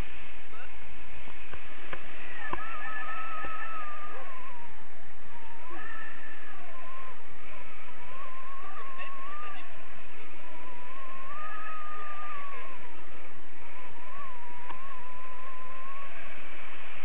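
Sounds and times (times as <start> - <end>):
wind noise on microphone: 0.0 - 17.0
thin wavering whistle: 2.0 - 17.0.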